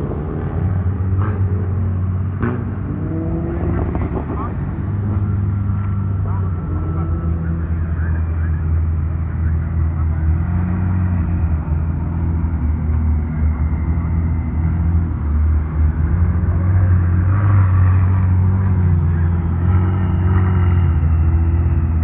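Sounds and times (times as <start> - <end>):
car engine droning at low revs: 0.0 - 22.0.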